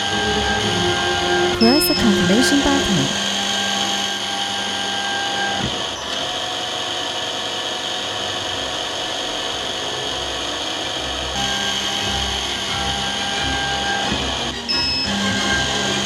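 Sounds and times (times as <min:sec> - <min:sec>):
drilling machine motor running: 0:02.3 - 0:16.0.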